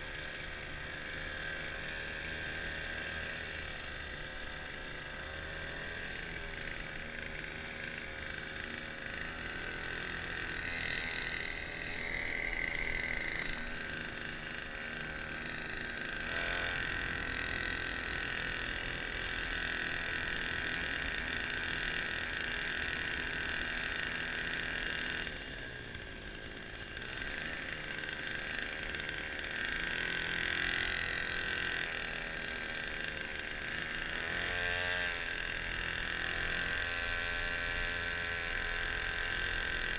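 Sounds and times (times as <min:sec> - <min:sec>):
small motor whining: 0:00.0 - 0:39.9.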